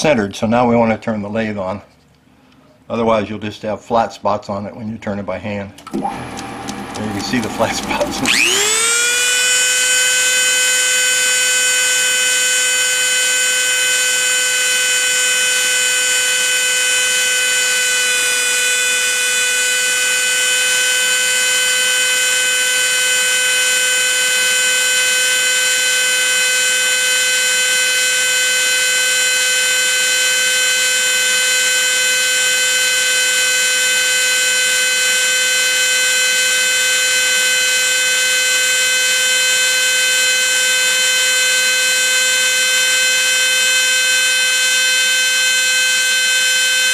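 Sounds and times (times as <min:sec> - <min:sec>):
grinder high-pitched whine: 0:05.8 - 0:46.9.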